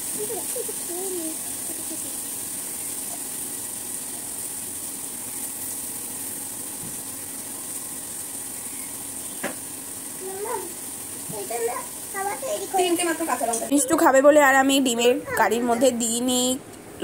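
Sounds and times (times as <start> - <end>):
constant hiss: 0.0 - 17.0.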